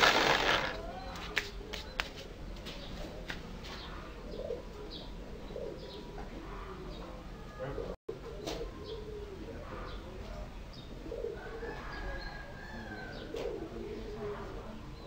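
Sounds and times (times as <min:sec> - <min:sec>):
birds cooing: 0:02.8 - 0:15.0.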